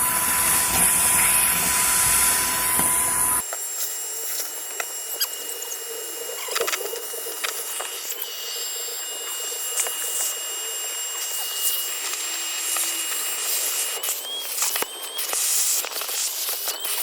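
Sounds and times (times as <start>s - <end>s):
vacuum cleaner whining: 0.0s - 17.0s.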